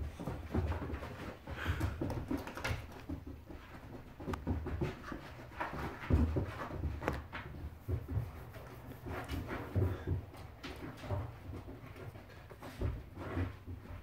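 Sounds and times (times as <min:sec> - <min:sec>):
paw thumps on carpet: 0:00.1 - 0:11.7.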